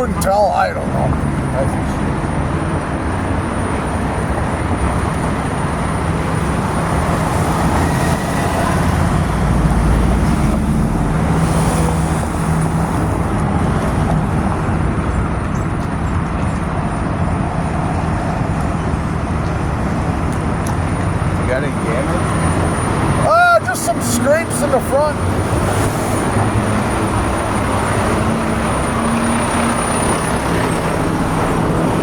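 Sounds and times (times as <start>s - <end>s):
engine running nearby: 0.0s - 32.0s
road traffic noise: 0.0s - 32.0s.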